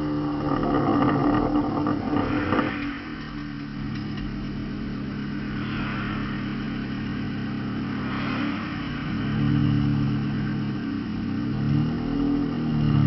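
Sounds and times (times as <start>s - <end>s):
straight-piped car engine revving: 0.0s - 13.0s.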